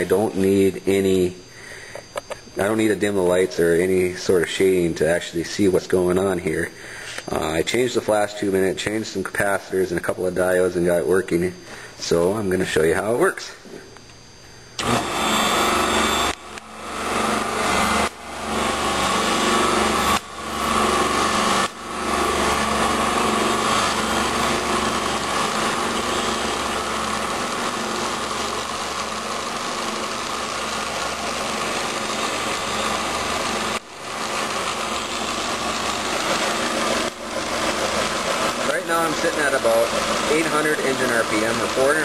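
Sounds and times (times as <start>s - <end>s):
motor humming and whining: 0.0s - 42.0s.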